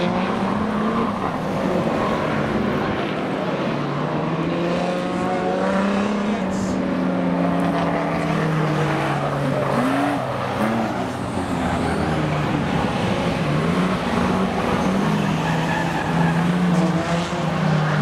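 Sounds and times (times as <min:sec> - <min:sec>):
stockcar engines running: 0:00.0 - 0:18.0.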